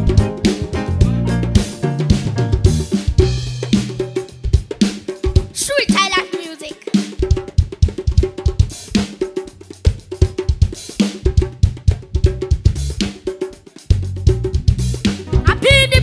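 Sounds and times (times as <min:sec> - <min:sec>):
live band playing: 0:00.0 - 0:07.4, 0:08.7 - 0:16.0
drum kit: 0:00.0 - 0:16.0.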